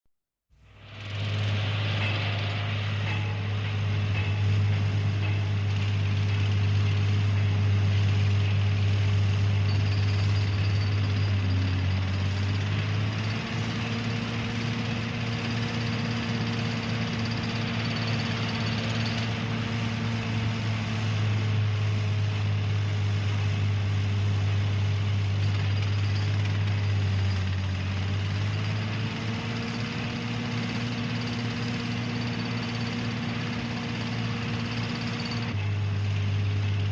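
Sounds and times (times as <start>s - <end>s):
heavy machinery humming: 0.6s - 36.9s.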